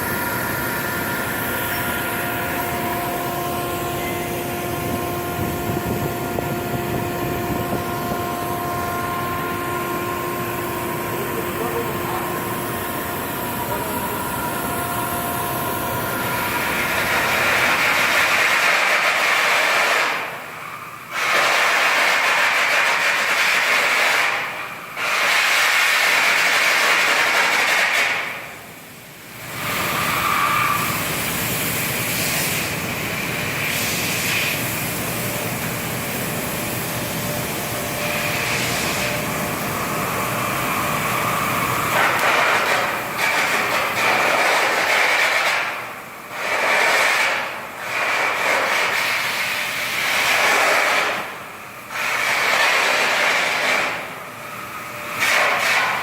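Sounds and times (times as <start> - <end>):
arc welding crackling hiss: 0.0 - 56.0.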